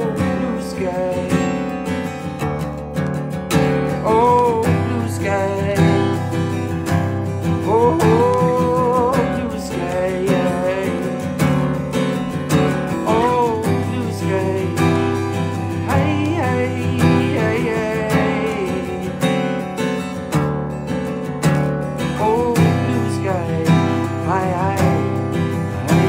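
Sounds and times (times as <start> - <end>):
man singing: 0.0 - 2.4, 3.6 - 20.1, 22.0 - 26.0
acoustic guitar strumming: 0.0 - 26.0.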